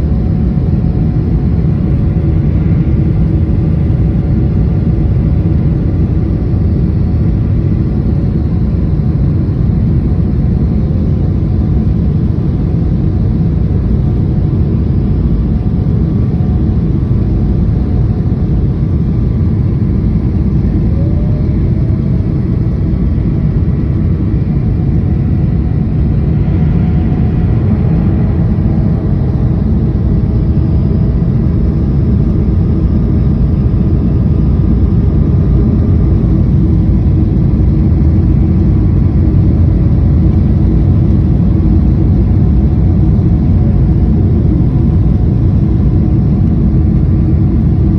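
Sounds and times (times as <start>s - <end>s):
faint steady hum: 0.0s - 47.9s
jet engines rumbling in cabin: 0.0s - 47.9s.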